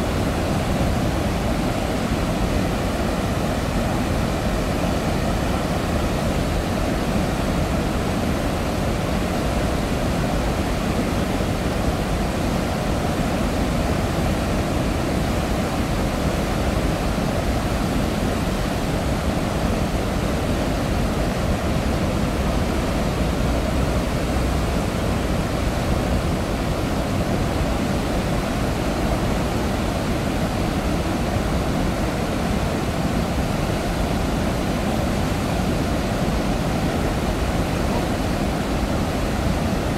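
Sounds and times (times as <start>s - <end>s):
floodwater roaring through spillway: 0.0s - 39.9s.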